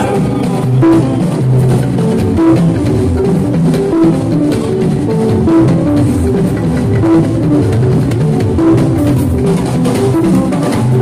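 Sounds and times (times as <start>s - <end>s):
bass line: 0.0s - 11.0s
drums and percussion: 0.0s - 11.0s
repeating melodic riff: 0.0s - 11.0s.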